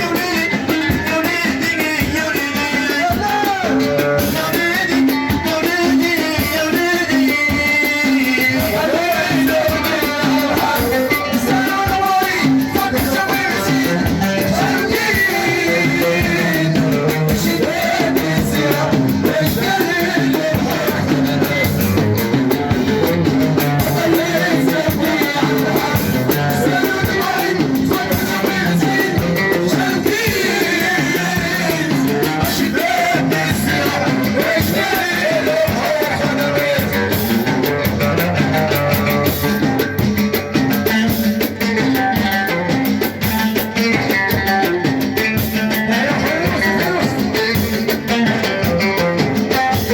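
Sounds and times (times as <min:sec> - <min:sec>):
hand-drum percussion: 0:00.0 - 0:49.9
person singing over a band: 0:00.0 - 0:49.9.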